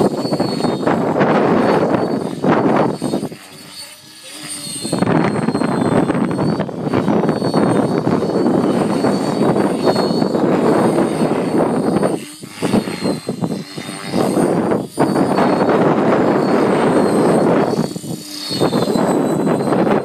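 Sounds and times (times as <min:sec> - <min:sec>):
model helicopter engine running: 0:00.0 - 0:20.0
rotor whoosh: 0:00.0 - 0:20.0.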